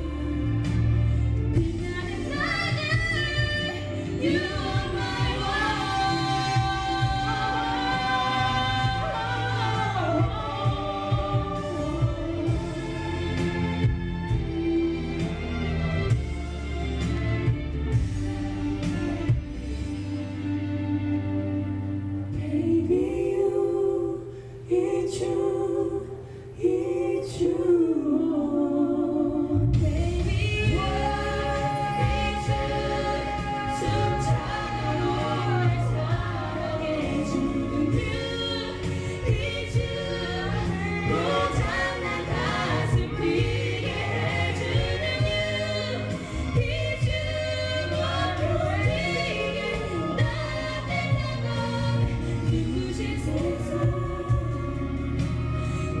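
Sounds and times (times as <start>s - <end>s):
choir singing: 0.0s - 20.9s, 21.5s - 56.0s.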